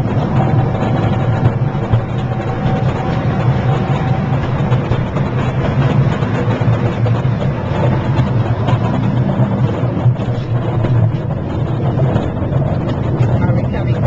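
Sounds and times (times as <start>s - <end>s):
miniature train engine and wheels rumbling: 0.0s - 14.0s.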